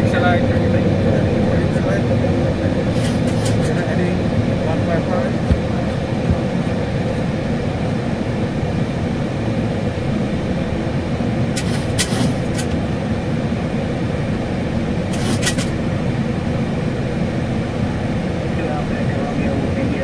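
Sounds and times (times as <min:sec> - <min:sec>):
cockpit airflow and engine drone: 0:00.0 - 0:20.0.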